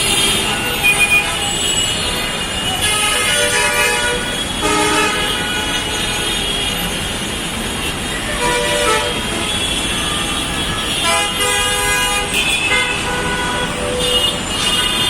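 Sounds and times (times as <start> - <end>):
steady traffic noise: 0.0 - 15.0
vehicle horns honking: 0.0 - 15.0.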